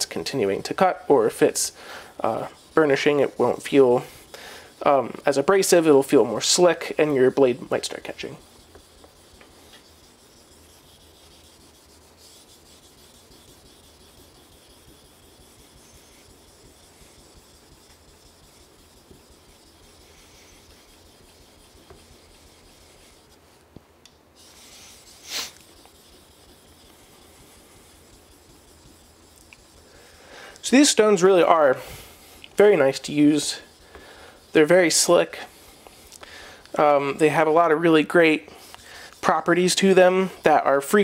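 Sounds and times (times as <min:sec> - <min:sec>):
knife scraping on wet whetstone: 0:00.0 - 0:23.4, 0:24.4 - 0:35.6, 0:36.7 - 0:41.0.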